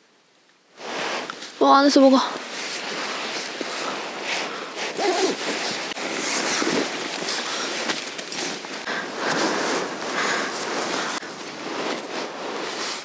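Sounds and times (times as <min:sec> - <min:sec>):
nylon fabric rustling: 0:00.8 - 0:13.0
sharp fabric scrapes: 0:02.4 - 0:13.0.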